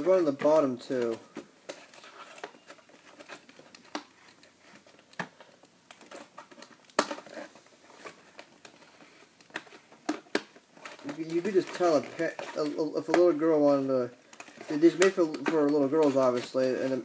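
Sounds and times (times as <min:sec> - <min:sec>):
plastic and cardboard rustling: 0:00.0 - 0:17.0.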